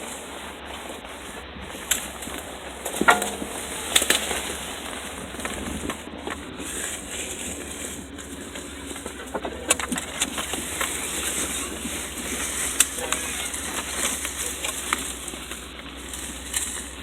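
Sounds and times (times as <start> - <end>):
low vehicle rumble: 0.0 - 17.0
vehicle knocks and rattles: 0.0 - 17.0.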